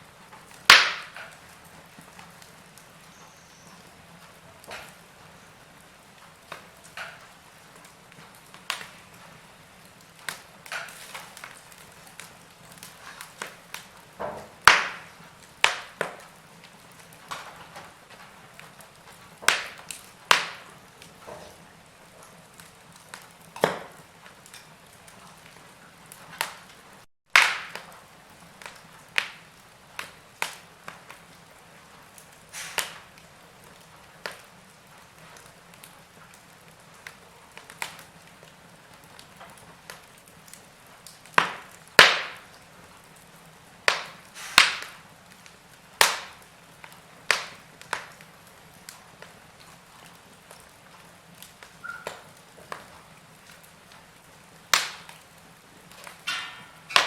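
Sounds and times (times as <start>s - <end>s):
logs crackling and popping: 0.0s - 57.0s
low fire hiss: 0.0s - 57.0s.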